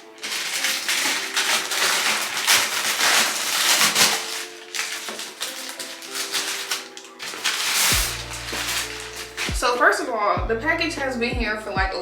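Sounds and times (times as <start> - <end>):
rustling bursts: 0.0 - 9.9
background music: 0.0 - 12.0.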